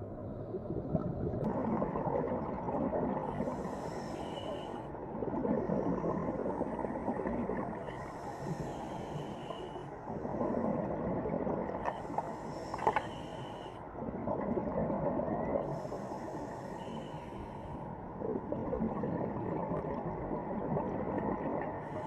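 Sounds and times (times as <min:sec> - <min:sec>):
low wavering underwater moans: 0:00.0 - 0:22.0
steady underwater rushing noise: 0:00.0 - 0:22.0.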